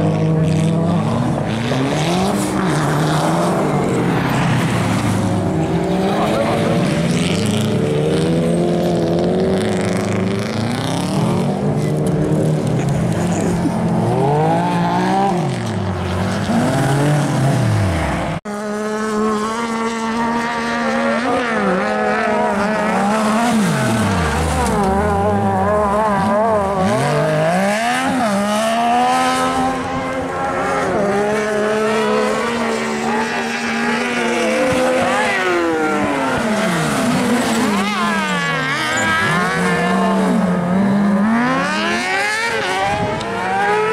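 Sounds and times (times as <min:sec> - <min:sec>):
buggy engine revving hard: 0:00.0 - 0:43.9
rally car engine revving: 0:00.0 - 0:43.9.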